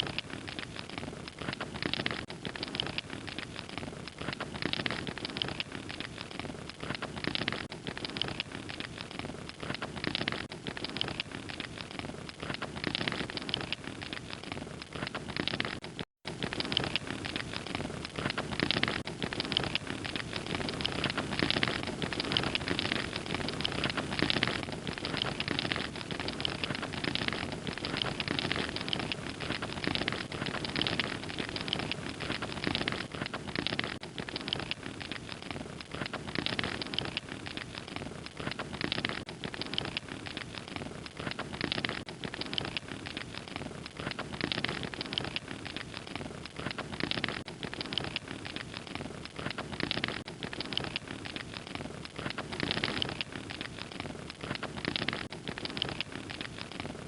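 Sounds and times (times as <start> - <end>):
open fire crackling: 0.0 - 57.0.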